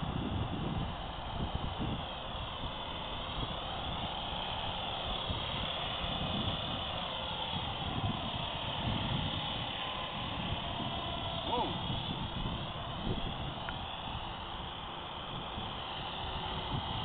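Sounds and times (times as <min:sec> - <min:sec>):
model helicopter whining: 0:00.0 - 0:17.0
wind on microphone: 0:00.0 - 0:17.0.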